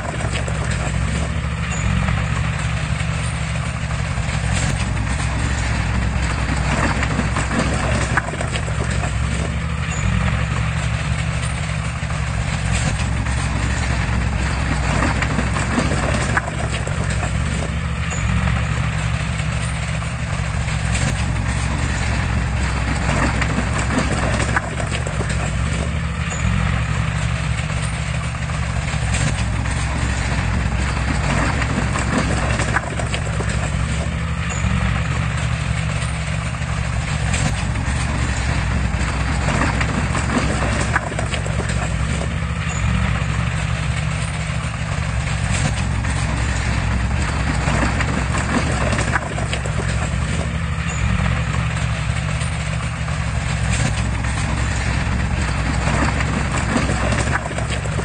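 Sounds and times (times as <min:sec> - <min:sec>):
clanks and knocks: 0:00.0 - 0:58.0
heavy diesel machinery running: 0:00.0 - 0:58.0.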